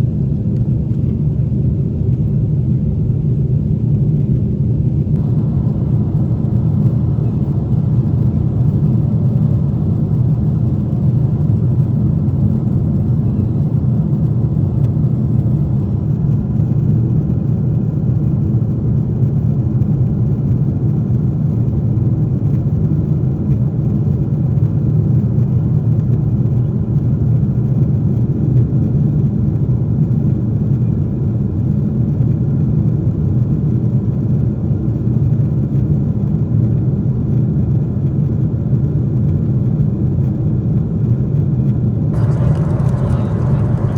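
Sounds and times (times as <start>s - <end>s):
aircraft cabin engine rumble: 0.0s - 43.9s.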